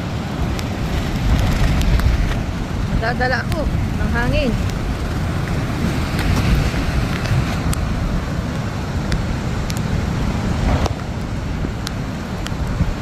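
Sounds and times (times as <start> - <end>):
heavy surf breaking: 0.0 - 13.0
wind buffeting microphone: 0.0 - 13.0.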